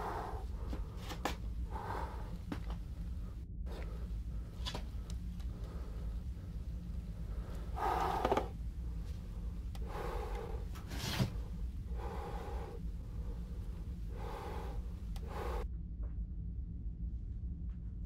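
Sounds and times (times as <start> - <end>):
person breathing heavily: 0.0 - 15.7
steady low hum: 0.0 - 18.0.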